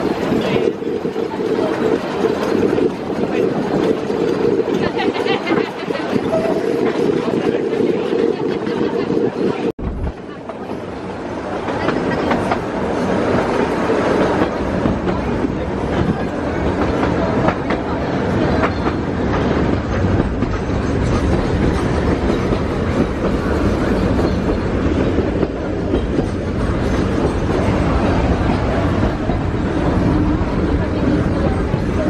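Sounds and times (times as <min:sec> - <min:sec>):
steam train rumble: 0:00.0 - 0:32.0.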